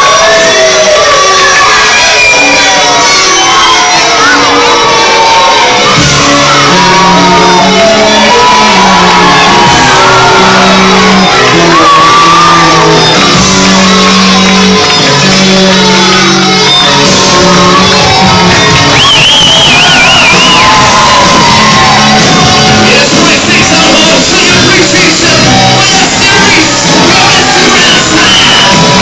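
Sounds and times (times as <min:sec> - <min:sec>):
crowd shouting: 0:00.0 - 0:29.0
loud music in a hall: 0:00.0 - 0:29.0.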